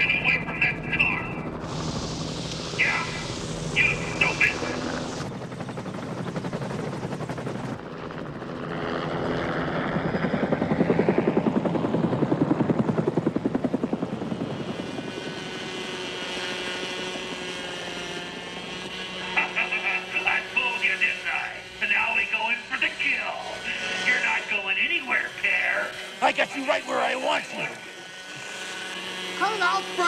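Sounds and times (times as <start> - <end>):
helicopter engine drone: 0.0 - 30.0
helicopter rotor chopping: 0.0 - 30.0.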